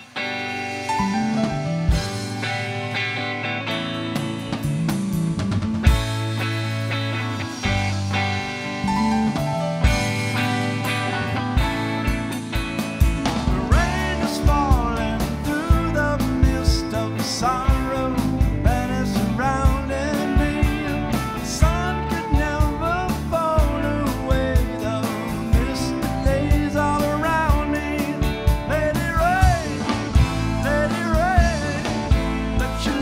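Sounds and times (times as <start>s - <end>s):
blues rock band playing: 0.0s - 33.0s.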